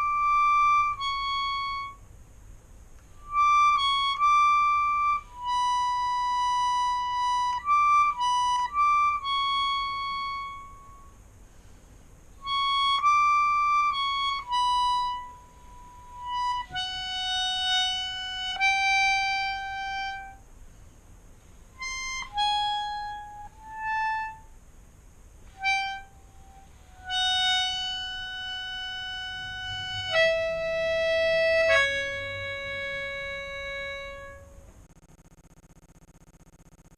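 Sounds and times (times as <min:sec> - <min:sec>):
melodica playing slow melody: 0:00.0 - 0:02.2, 0:03.0 - 0:20.5, 0:21.5 - 0:24.8, 0:25.4 - 0:34.8.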